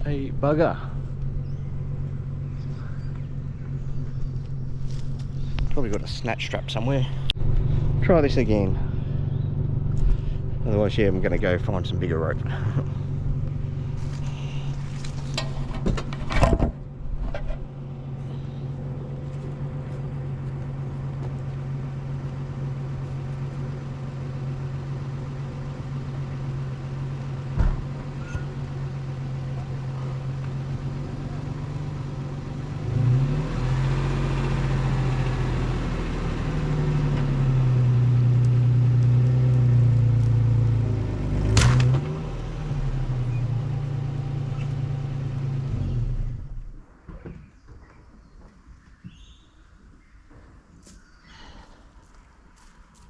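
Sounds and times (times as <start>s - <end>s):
engine idling and revving: 0.0s - 46.9s.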